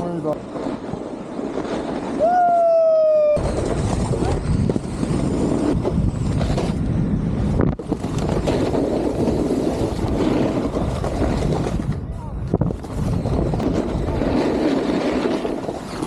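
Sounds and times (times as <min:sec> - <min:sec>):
snowboard scraping over snow: 0:00.0 - 0:16.0
wind buffeting microphone: 0:00.0 - 0:16.0.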